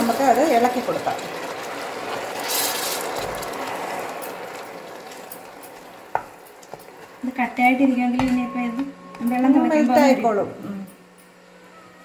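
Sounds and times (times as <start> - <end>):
caramelized sugar sizzling and bubbling: 0.0 - 10.9.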